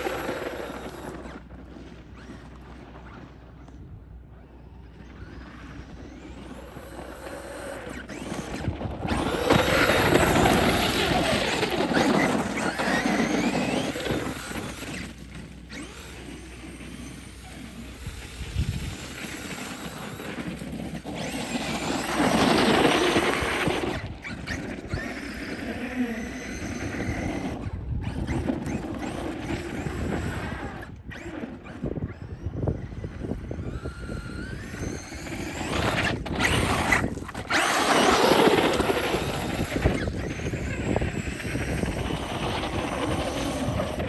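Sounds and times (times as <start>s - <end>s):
electric motor whining: 0.0s - 1.5s, 4.5s - 44.0s
tires scrabbling over ice: 0.0s - 44.0s.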